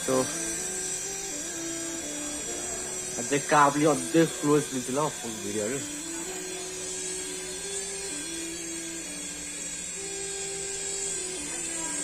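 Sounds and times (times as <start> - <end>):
low tones shifting pitch: 0.0 - 12.0
toy helicopter motors whining: 0.0 - 12.0.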